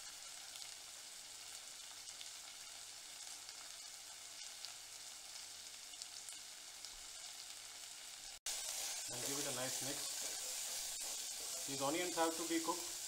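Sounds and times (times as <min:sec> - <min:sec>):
onions frying in oil: 0:00.0 - 0:13.0.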